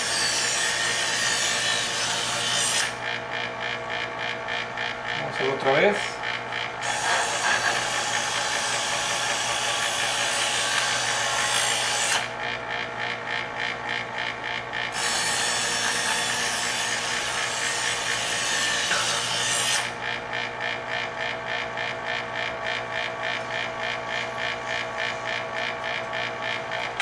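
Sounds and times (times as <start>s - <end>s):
knife sharpener motor hum: 0.0s - 27.0s.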